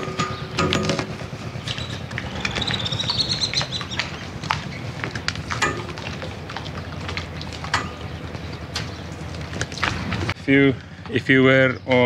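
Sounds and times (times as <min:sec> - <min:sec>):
low background rumble: 0:00.0 - 0:11.3.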